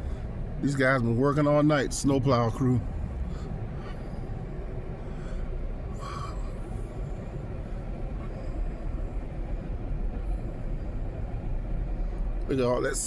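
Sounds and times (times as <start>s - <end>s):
diesel engine low rumble: 0.0s - 13.0s.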